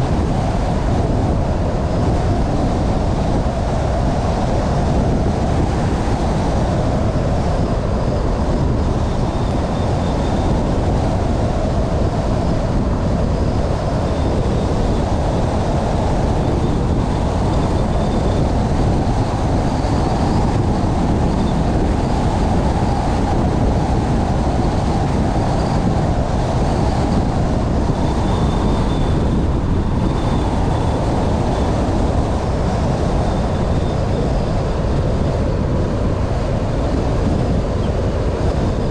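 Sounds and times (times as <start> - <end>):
car road and wind noise: 0.0 - 38.9
faint high whine: 0.0 - 38.9.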